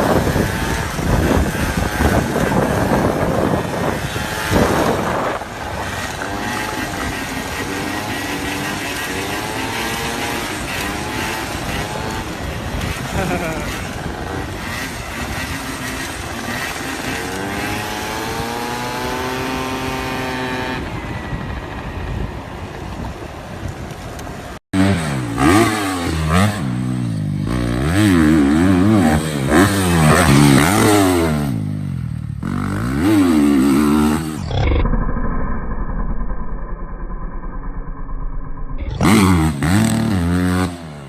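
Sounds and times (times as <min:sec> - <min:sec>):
dirt bike engines revving: 0:00.0 - 0:34.9, 0:38.8 - 0:41.0.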